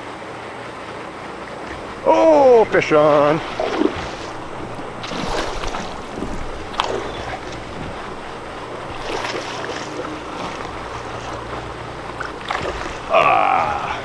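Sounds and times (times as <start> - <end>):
fish splashing in water: 1.6 - 14.0.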